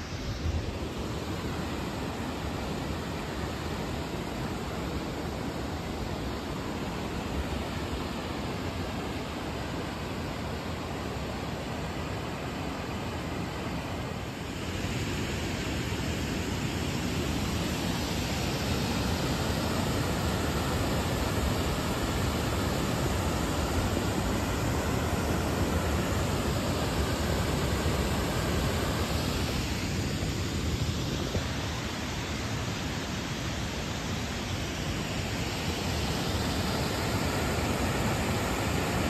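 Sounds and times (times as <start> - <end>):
river water rushing over rocks: 0.0 - 39.0.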